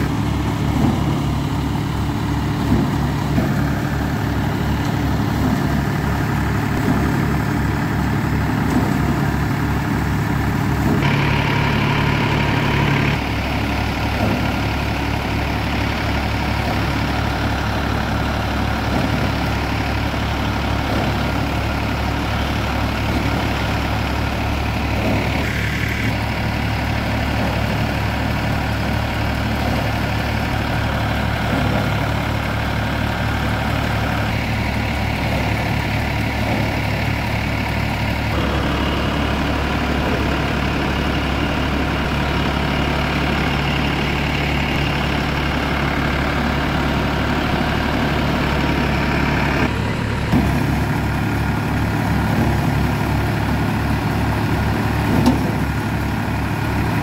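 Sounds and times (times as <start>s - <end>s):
tractor engine hum: 0.0s - 57.0s.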